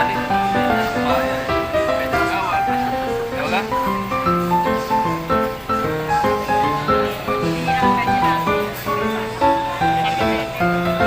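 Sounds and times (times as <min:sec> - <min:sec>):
gentle background melody: 0:00.0 - 0:11.0.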